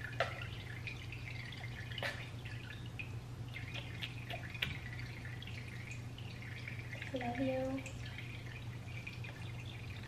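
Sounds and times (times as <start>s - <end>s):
low steady hum: 0.0s - 10.0s
water splashing in a sink: 0.0s - 10.0s.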